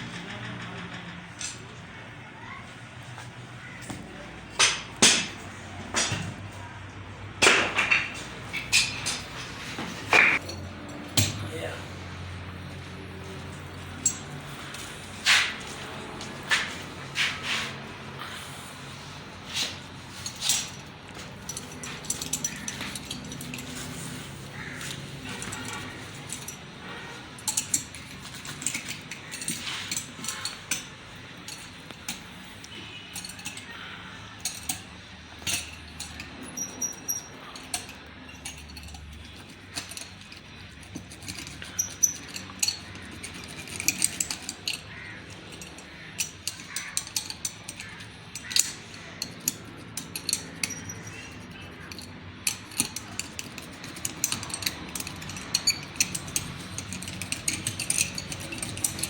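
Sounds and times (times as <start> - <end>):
metal hand tools clinking: 7.4 - 59.0.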